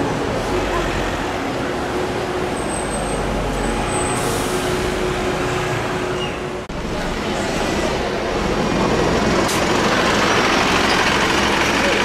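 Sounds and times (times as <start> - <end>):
bus engine driving past: 0.0 - 12.0
street traffic noise: 0.0 - 12.0.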